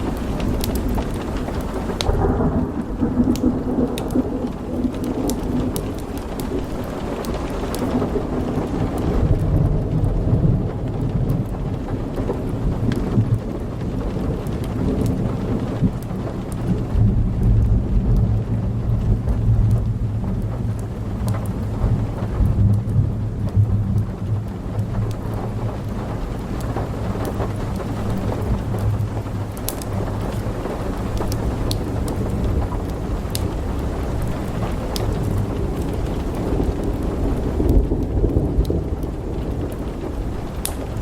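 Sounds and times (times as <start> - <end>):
rolling thunder: 0.0 - 41.0
steady rain: 0.0 - 41.0
wood fire crackling: 0.0 - 41.0.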